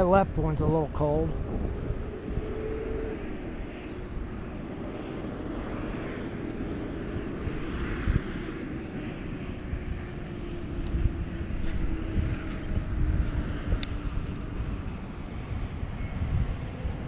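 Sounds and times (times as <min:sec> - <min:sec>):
distant engine drone: 0:00.0 - 0:17.0
wind rumble on microphone: 0:00.0 - 0:17.0.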